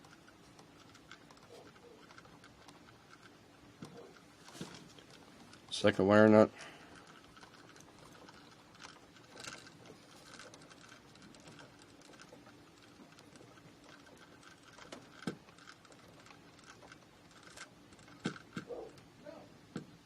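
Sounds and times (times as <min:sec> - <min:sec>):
wire nut twisted onto wires: 0:00.0 - 0:19.1.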